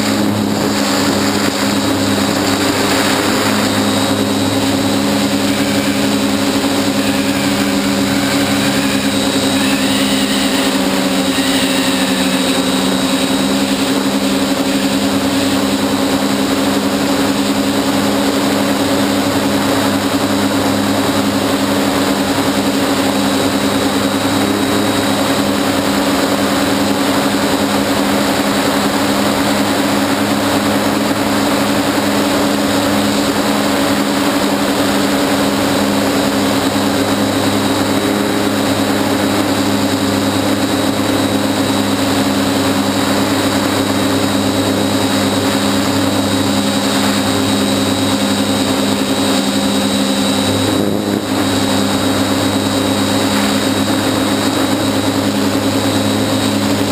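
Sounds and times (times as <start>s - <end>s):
drone motors humming: 0.0s - 56.9s.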